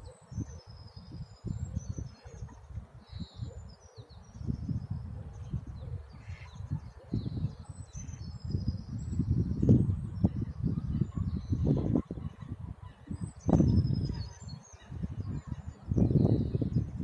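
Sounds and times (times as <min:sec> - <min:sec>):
small birds chirping: 0:00.0 - 0:17.0
wind buffeting microphone: 0:00.0 - 0:17.0.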